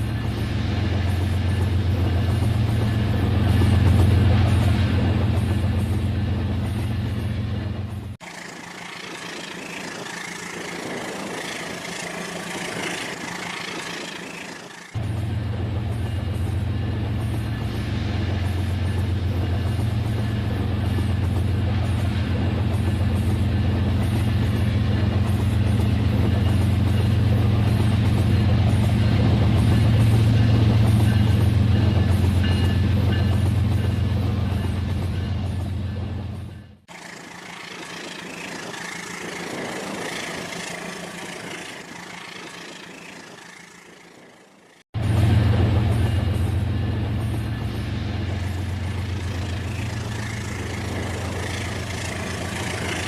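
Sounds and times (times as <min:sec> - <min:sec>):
model train humming: 0:00.0 - 0:53.0.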